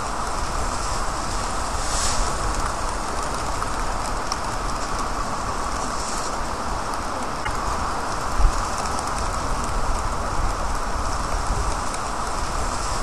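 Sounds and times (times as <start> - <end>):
heavy rain on street: 0.0 - 13.0.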